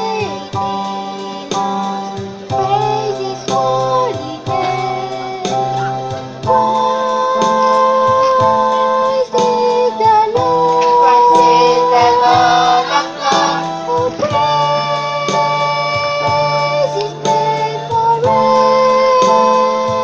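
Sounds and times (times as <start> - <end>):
children's choir singing a carol: 0.0 - 5.9, 6.6 - 20.0.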